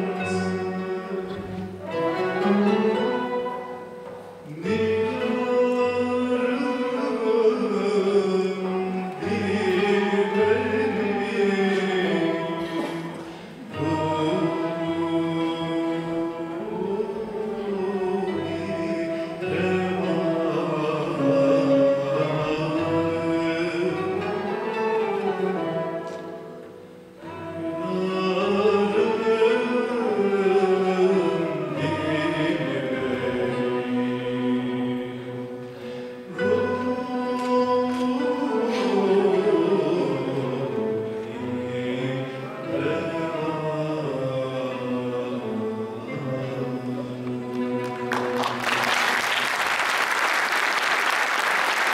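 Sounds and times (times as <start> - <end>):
violin: 0.0 - 49.9
choir singing: 0.0 - 51.9
man singing: 4.4 - 26.4, 27.3 - 35.7, 36.3 - 48.4.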